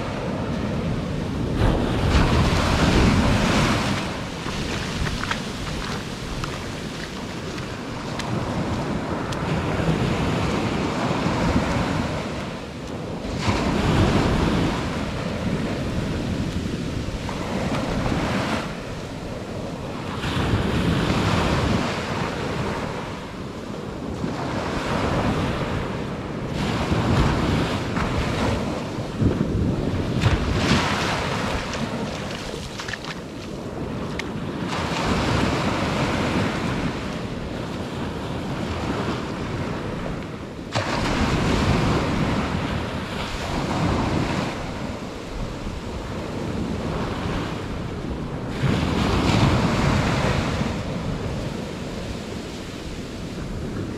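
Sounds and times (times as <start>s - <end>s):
ocean waves breaking on beach: 0.0s - 53.9s
wind rumbling on microphone: 0.0s - 53.9s.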